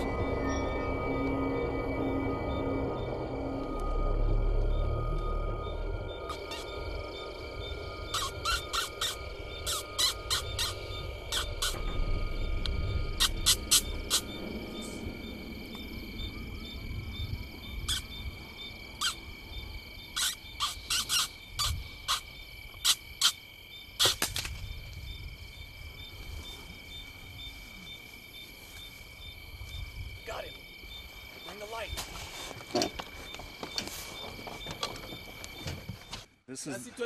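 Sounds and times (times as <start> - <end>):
crickets trilling: 0.0 - 37.0.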